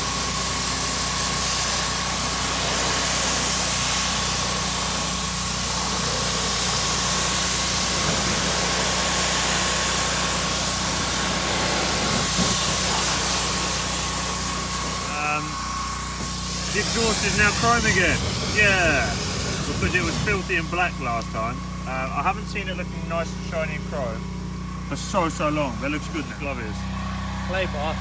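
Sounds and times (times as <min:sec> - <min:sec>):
pressure washer jet hissing: 0:00.0 - 0:27.9
machine humming: 0:00.0 - 0:28.0.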